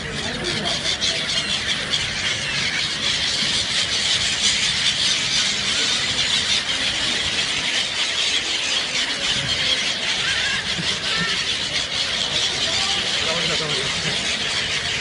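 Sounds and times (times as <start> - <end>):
flock of birds squealing: 0.0 - 15.0.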